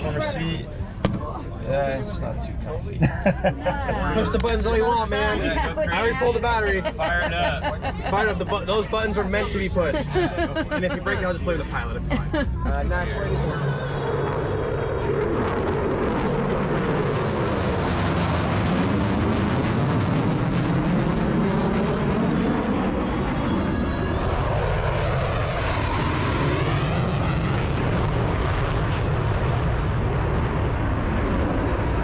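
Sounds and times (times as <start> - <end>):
airplane engine flying over: 0.0 - 32.0.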